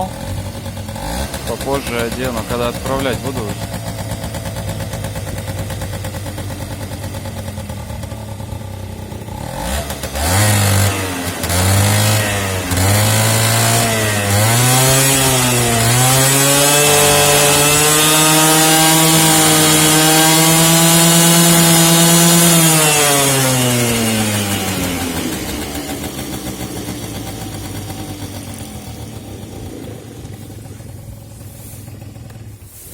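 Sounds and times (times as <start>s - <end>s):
moped engine revving: 0.0s - 32.9s.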